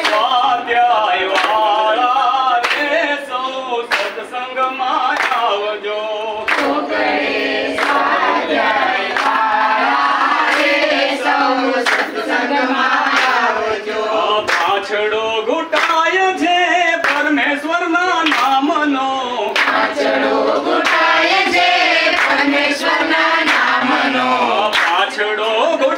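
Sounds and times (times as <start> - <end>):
hand clapping: 0.0 - 5.8, 6.5 - 15.1, 15.7 - 17.6, 18.2 - 25.9
group singing devotional song: 0.0 - 25.9.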